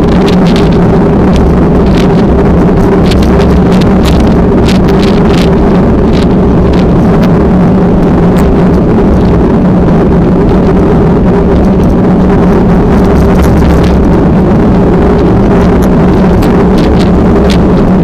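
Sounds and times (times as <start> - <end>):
engine drone: 0.0 - 18.0
wind on microphone: 0.0 - 18.0.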